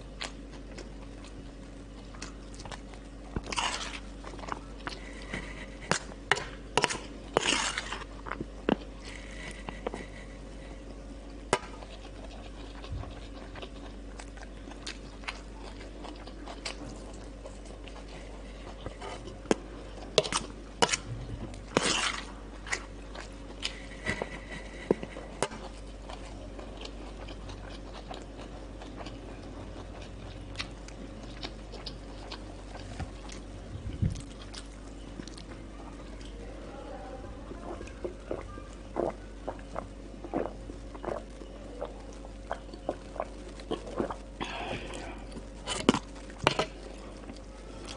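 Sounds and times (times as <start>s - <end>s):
chewing and biting food: 0.0s - 36.6s, 37.3s - 47.9s.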